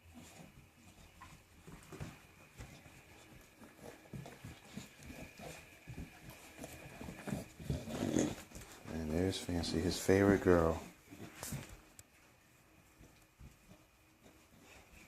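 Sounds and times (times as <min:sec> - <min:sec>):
puppies thumping and scuffling: 0:00.0 - 0:15.0.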